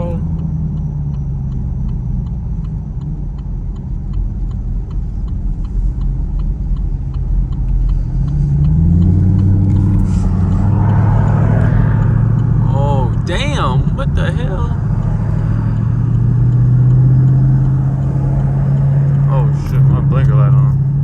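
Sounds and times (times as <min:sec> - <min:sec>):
car engine accelerating: 0:00.0 - 0:21.0
turn signal ticking: 0:00.0 - 0:21.0.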